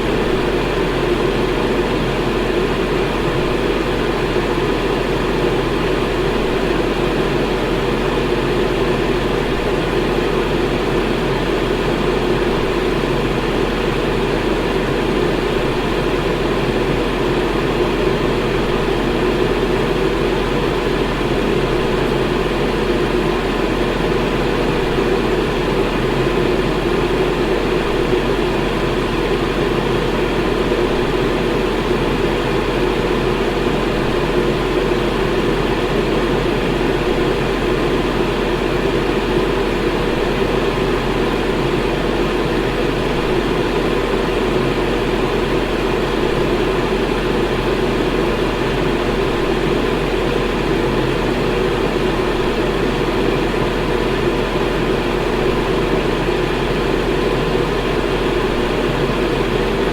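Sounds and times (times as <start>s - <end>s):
electric fan whooshing with hum: 0.0s - 59.9s.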